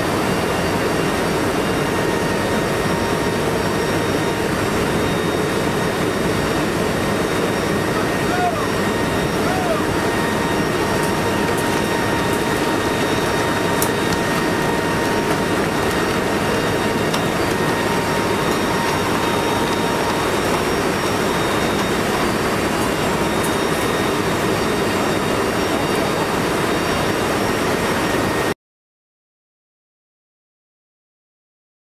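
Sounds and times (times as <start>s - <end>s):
faint steady whine: 0.0s - 28.5s
turboprop engines in flight: 0.0s - 28.6s.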